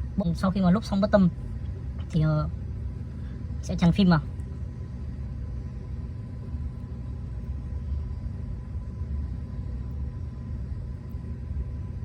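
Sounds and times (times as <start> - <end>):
faint electrical hum: 0.0 - 12.0
low background rumble: 0.0 - 12.0.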